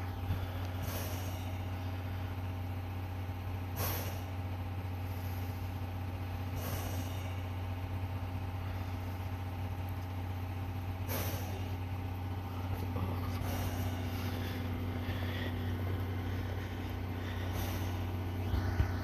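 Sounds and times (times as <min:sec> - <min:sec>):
diesel generator hum: 0:00.0 - 0:19.0.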